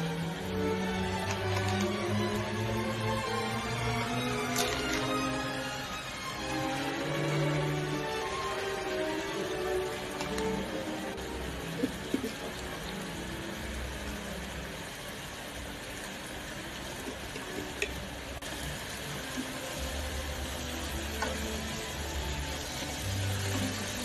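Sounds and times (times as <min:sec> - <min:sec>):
sauce sizzling and bubbling in pan: 0:00.0 - 0:24.0.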